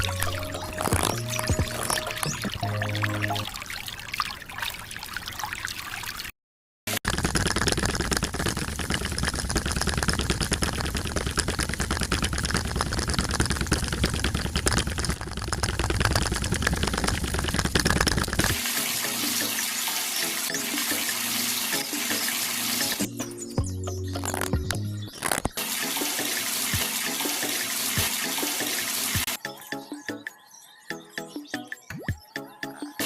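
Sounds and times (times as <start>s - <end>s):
water running and splashing: 0.0s - 6.3s, 7.0s - 23.1s, 25.2s - 29.4s.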